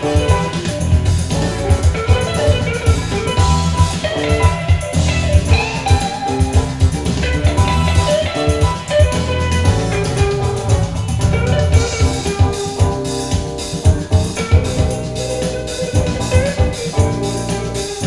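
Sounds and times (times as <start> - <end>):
bright pitched percussion notes: 0.0 - 18.0
song with drums and bass: 0.0 - 18.0.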